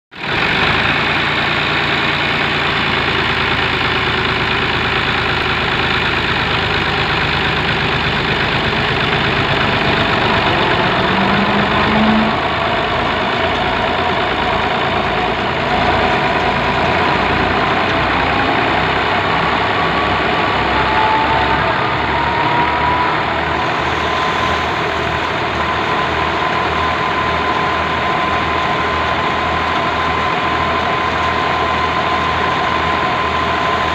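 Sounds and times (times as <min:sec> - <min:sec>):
tractor diesel engine running: 0:00.1 - 0:33.9
steady whine: 0:00.2 - 0:33.9
thresher rumble: 0:00.2 - 0:33.9.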